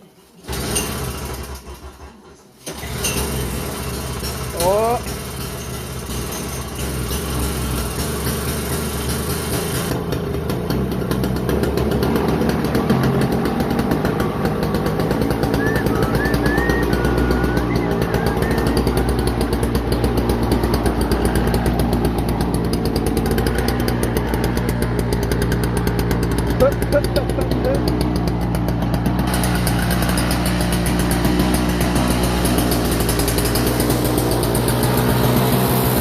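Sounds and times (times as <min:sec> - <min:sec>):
snowblower engine running: 0:00.4 - 0:36.0.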